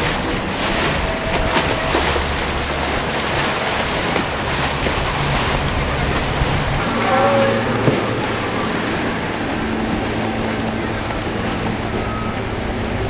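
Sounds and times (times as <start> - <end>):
boat motors humming: 0.0 - 13.0
surf and wake wash: 0.0 - 13.0
wind buffeting microphone: 0.0 - 13.0.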